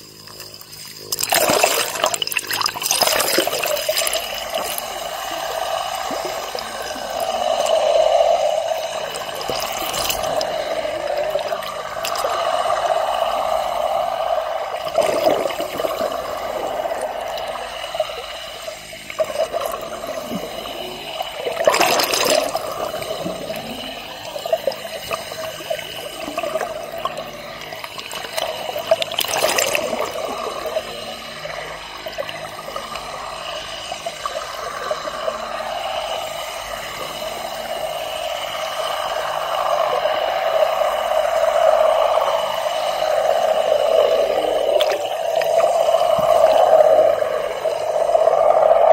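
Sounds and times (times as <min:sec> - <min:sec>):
mid-pitched hum: 0:00.0 - 0:48.9
underwater sloshing wash: 0:00.8 - 0:48.9.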